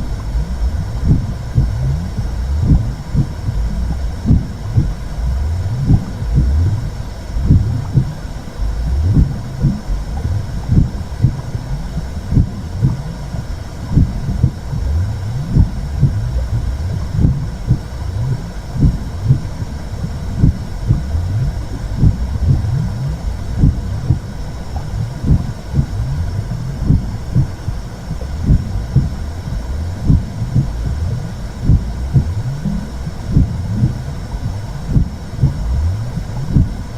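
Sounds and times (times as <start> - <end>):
low whooshing rumble: 0.0 - 36.9
muffled heartbeat thumping: 0.0 - 36.9.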